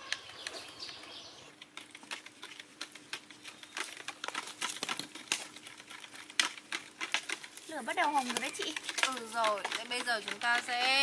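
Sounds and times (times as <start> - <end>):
charcoal fire crackling: 0.0 - 11.0.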